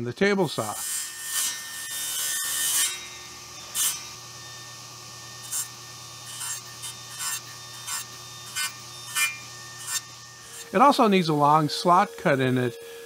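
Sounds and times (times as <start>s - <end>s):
table saw running: 0.3s - 13.0s
saw blade cutting wood: 0.5s - 13.0s.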